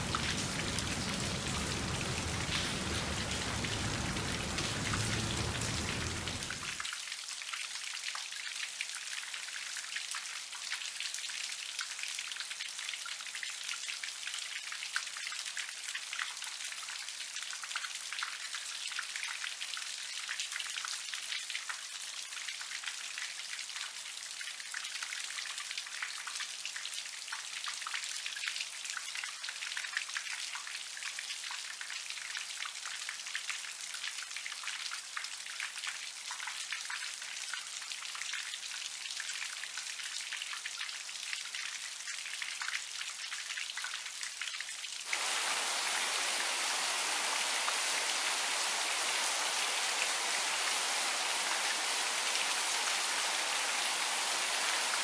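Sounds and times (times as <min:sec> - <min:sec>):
light rain pattering: 0:00.0 - 0:55.0.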